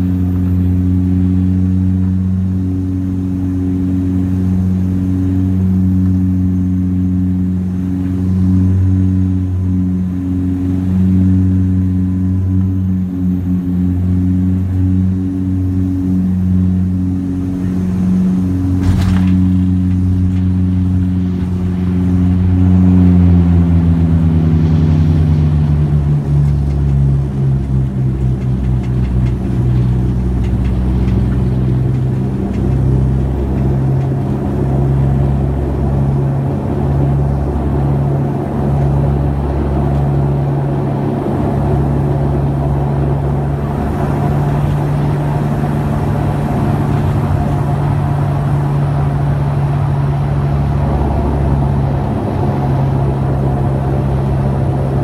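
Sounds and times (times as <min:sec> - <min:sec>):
low rumble of runway rolling: 0:00.0 - 0:55.0
turboprop engines droning: 0:00.0 - 0:55.0.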